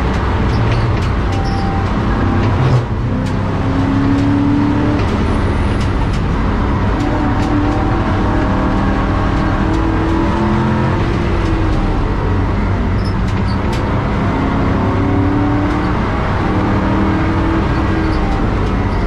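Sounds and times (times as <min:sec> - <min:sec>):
car engine revving: 0:00.0 - 0:19.0
tyre and road rumble: 0:00.0 - 0:19.0.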